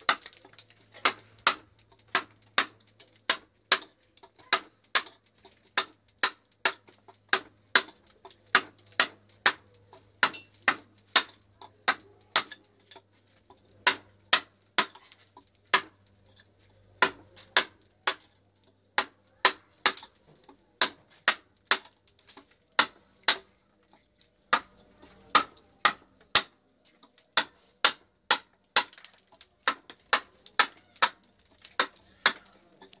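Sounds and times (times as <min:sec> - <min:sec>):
mallet striking chisel: 0:00.0 - 0:00.3, 0:00.9 - 0:15.1, 0:15.7 - 0:18.4, 0:19.0 - 0:23.5, 0:24.5 - 0:29.0, 0:29.6 - 0:33.0.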